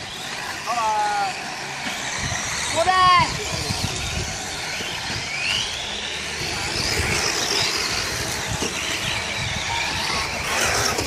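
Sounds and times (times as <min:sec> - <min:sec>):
model car motor whine: 0:00.0 - 0:11.0
tyres hissing on dirt track: 0:00.0 - 0:11.0.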